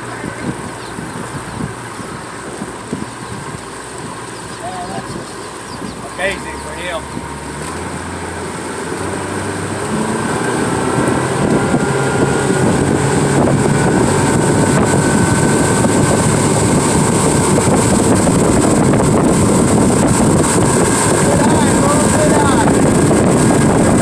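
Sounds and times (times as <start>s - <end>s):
boat motor running: 0.0s - 24.0s
wind buffeting microphone: 0.0s - 24.0s.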